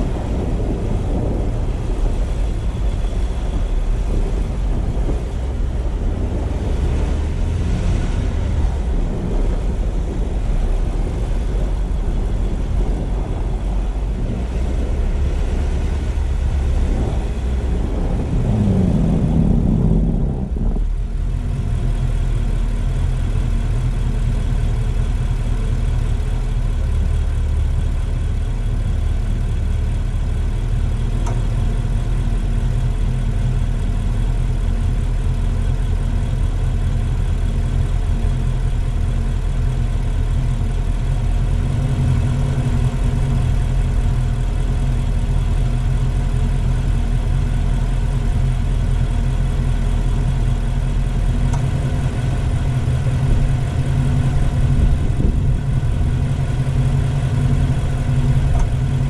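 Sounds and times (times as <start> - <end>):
car engine hum: 0.0 - 59.0
tyre and road noise: 0.0 - 59.0.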